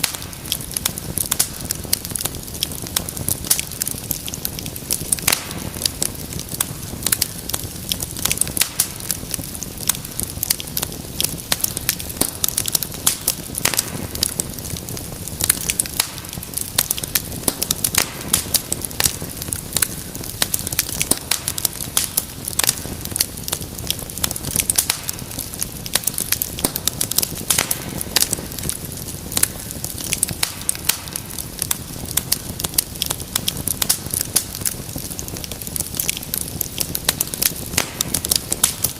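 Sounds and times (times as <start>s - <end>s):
hiss of flames: 0.0s - 38.9s
wood fire crackling: 0.0s - 38.9s.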